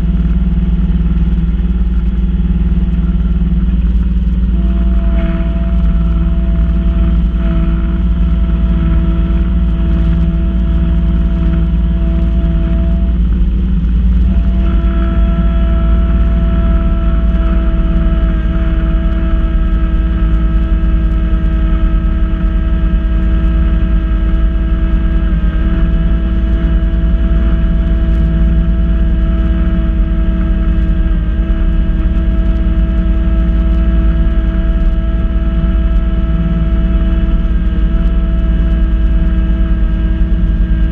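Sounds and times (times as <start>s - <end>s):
snow blower whine: 0.0s - 40.9s
tractor diesel engine drone: 0.0s - 40.9s.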